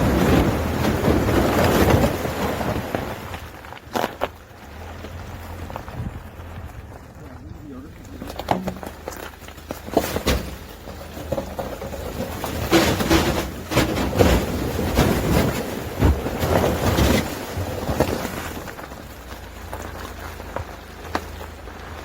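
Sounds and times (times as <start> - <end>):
low engine rumble: 0.0 - 22.0
tyres crunching through ice: 0.0 - 22.0.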